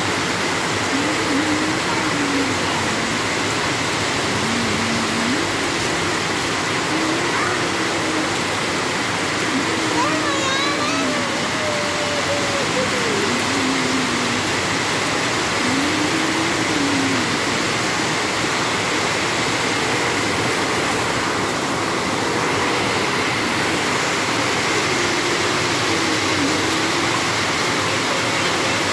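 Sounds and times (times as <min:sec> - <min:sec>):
heavy rain on leaves and tiles: 0:00.0 - 0:28.9.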